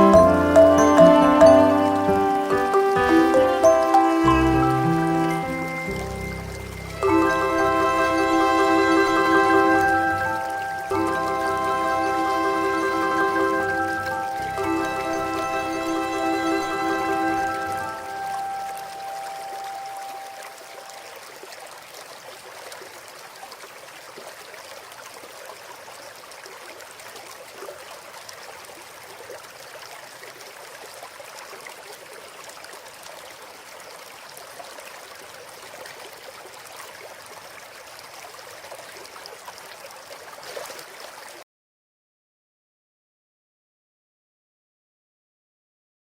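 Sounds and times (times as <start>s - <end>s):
running water: 0.0s - 41.4s.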